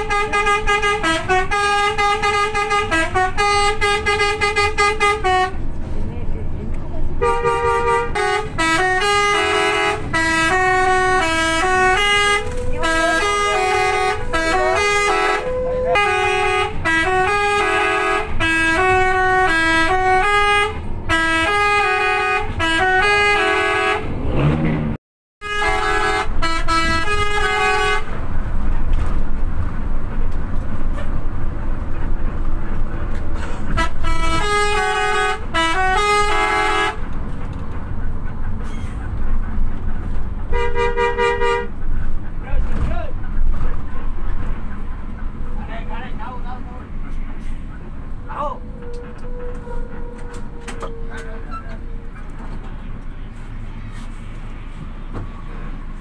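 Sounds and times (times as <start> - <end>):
bus engine: 0.0 - 56.0
road noise: 0.0 - 56.0.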